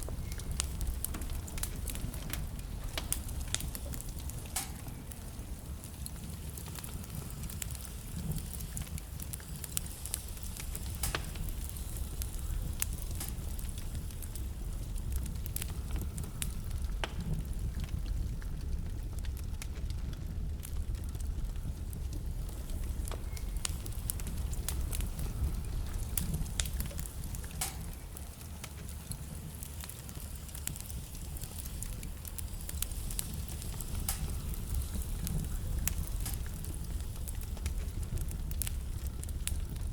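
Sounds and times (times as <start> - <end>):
fire flames rumbling: 0.0 - 39.9
logs crackling and popping: 0.0 - 39.9.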